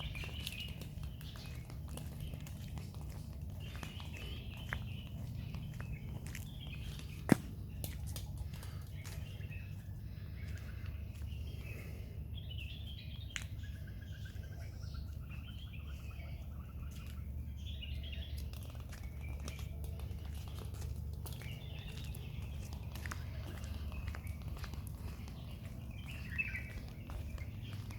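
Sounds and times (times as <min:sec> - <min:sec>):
birds chirping: 0:00.0 - 0:27.9
steady low hum: 0:00.0 - 0:27.9.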